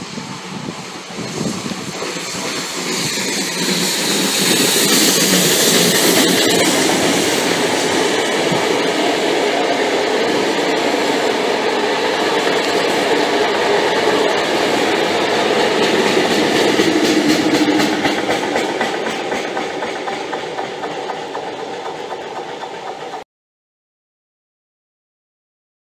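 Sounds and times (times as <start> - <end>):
diesel locomotive engine running: 0.0 - 23.2
train coaches rolling past: 0.0 - 23.2.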